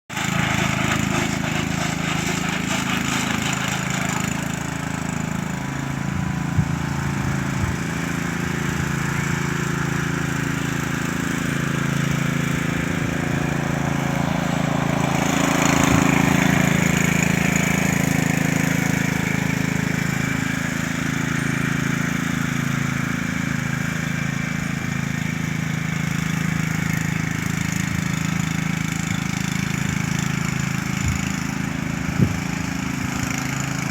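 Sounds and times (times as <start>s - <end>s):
lawn mower engine running: 0.1s - 33.9s.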